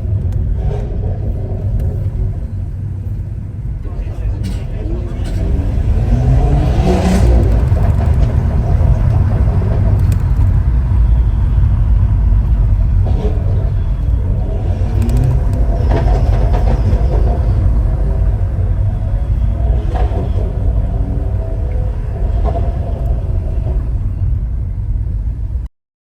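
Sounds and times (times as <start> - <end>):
car engine and exhaust rumble: 0.0 - 25.7.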